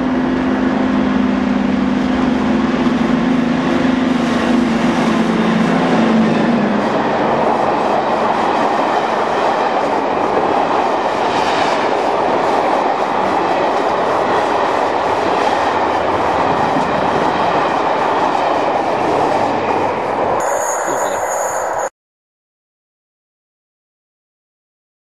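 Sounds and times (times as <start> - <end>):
train wheels rushing on rails: 0.0 - 21.9.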